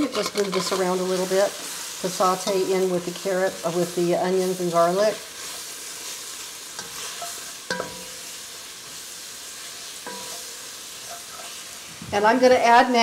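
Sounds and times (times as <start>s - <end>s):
wooden spatula scraping a pot: 0.0s - 9.0s, 9.7s - 12.0s
onions sizzling in a pot: 0.0s - 13.0s.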